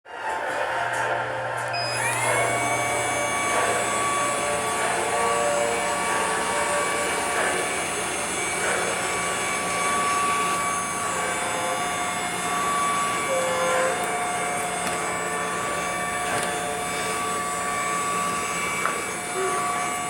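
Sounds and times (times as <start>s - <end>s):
robot vacuum running: 0.3s - 20.0s.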